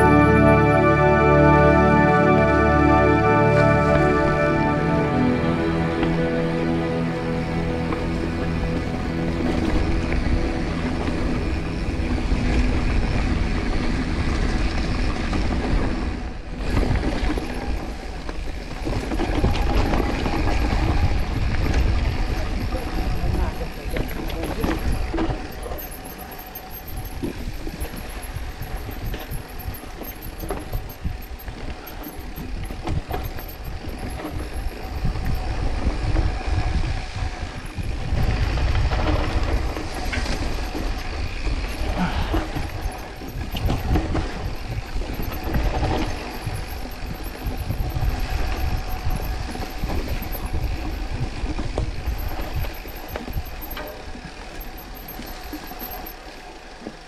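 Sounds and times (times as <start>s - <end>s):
bike rattling over bumps: 7.9s - 57.0s
mountain bike rumble on dirt: 7.9s - 57.0s.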